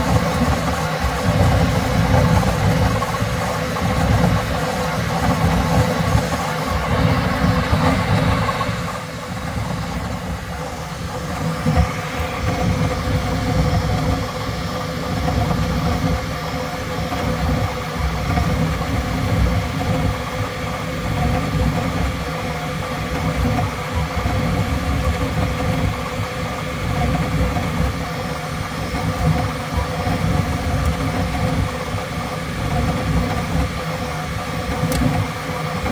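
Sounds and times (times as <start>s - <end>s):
printer motors whining: 0.0s - 35.9s.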